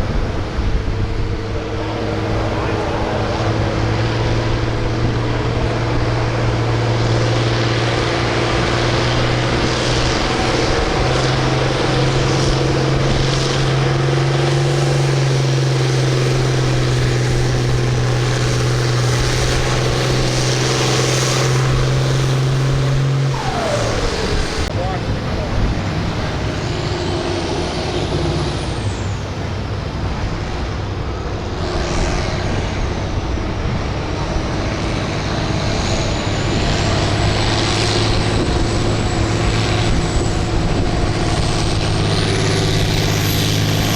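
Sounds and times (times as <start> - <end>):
tractor engine running hard: 0.0 - 43.9.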